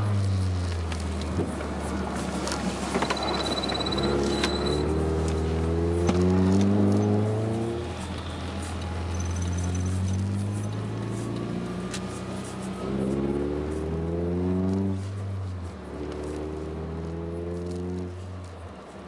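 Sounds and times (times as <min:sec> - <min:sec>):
car engine revving: 0:00.0 - 0:18.4.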